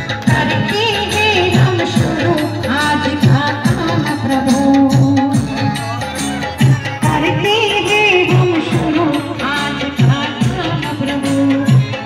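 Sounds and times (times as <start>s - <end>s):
woman singing devotional song: 0.0s - 5.8s, 6.9s - 12.0s
instrumental accompaniment: 0.0s - 12.0s
steady drum beat: 0.0s - 12.0s.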